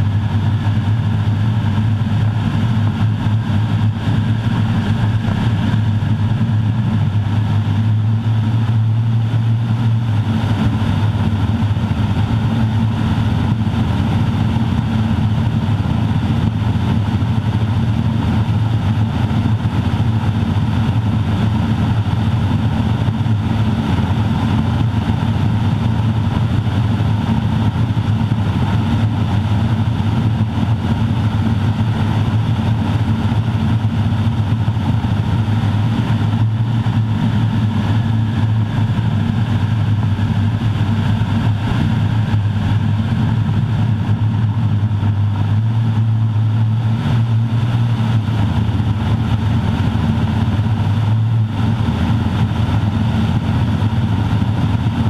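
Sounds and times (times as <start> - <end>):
turboprop engine drone: 0.0 - 55.0.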